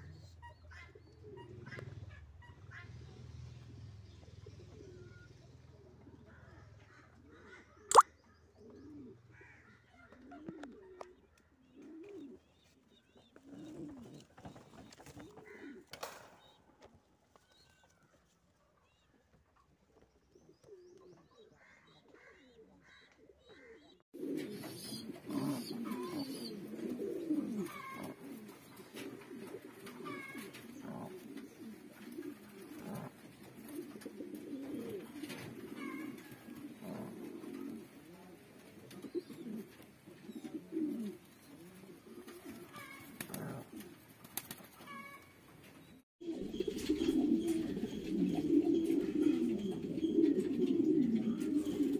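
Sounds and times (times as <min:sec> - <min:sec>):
pigeons cooing: 0:00.0 - 0:16.6, 0:20.0 - 0:51.9.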